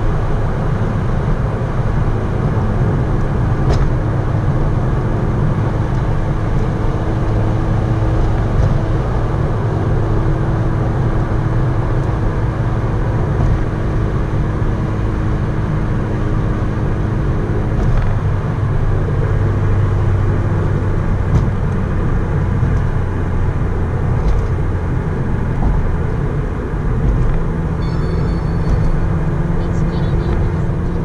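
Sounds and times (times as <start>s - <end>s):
car engine cruising: 0.0s - 31.0s
tyre and road noise: 0.0s - 31.0s.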